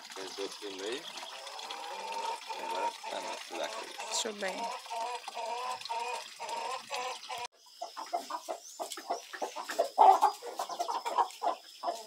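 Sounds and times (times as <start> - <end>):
chickens clucking: 1.2 - 12.0.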